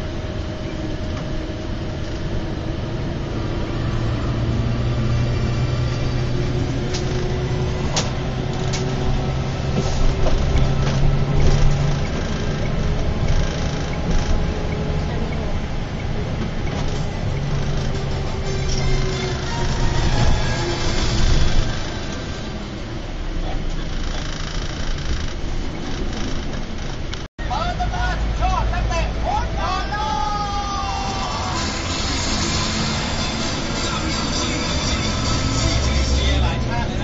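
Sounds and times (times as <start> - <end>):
bus engine drone: 0.0 - 37.0
road noise: 0.0 - 37.0.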